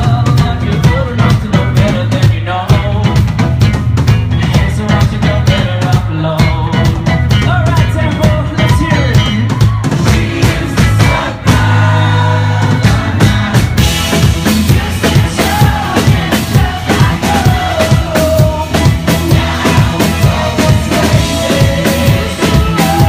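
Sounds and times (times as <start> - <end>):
lead singer singing: 0.0 - 3.6, 4.3 - 23.0
bass guitar: 0.0 - 23.0
electric guitar: 0.0 - 23.0
pounding drum kit: 0.0 - 23.0.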